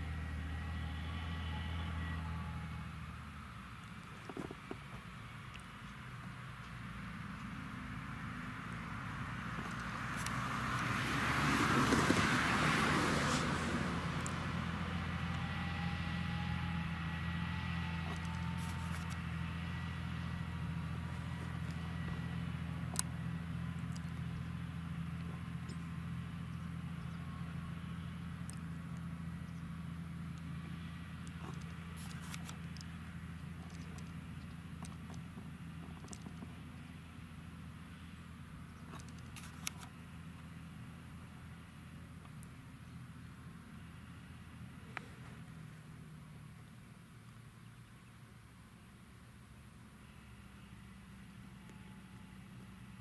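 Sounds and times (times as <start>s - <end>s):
tractor diesel engine droning: 0.0s - 53.0s.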